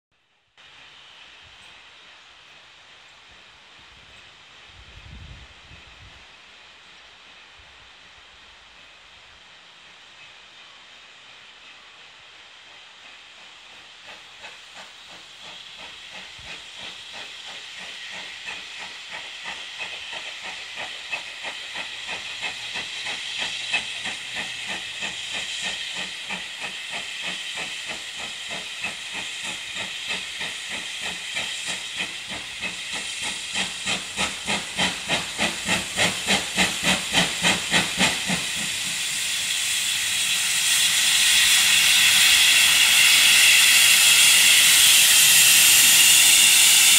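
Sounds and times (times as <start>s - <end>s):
steam hissing: 0.6s - 46.9s
steam locomotive chuffing: 8.6s - 46.9s.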